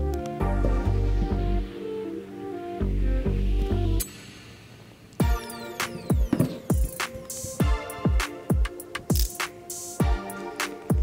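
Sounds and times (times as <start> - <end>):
instrumental background music: 0.0 - 4.5, 5.2 - 11.0.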